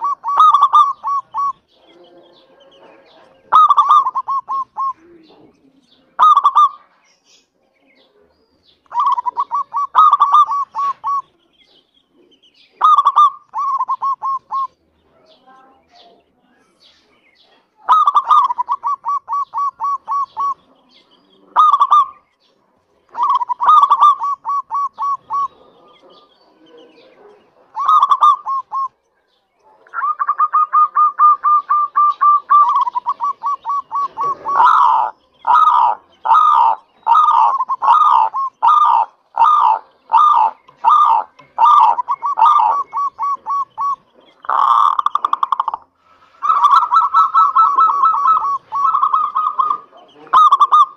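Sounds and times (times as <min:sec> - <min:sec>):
dove cooing: 0:00.0 - 0:07.0, 0:08.8 - 0:15.3, 0:17.5 - 0:22.3, 0:23.0 - 0:50.9.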